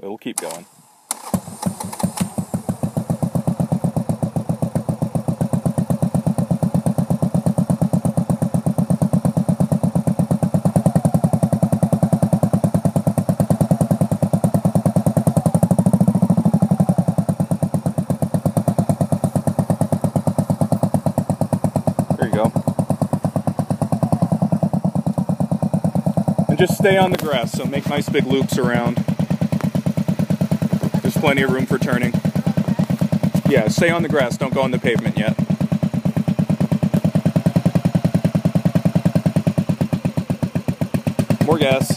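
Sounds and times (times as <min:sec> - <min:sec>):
motorcycle engine running: 0:00.4 - 0:41.9.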